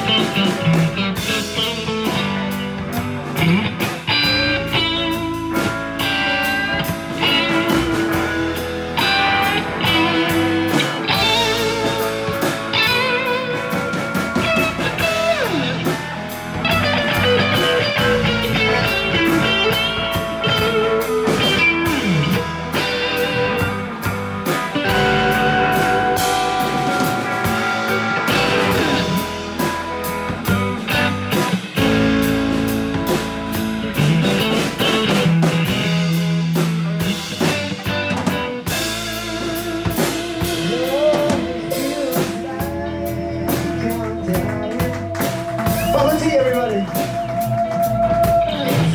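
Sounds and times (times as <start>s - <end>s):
blues electric guitar: 0.0s - 48.9s
drum kit: 0.0s - 48.9s.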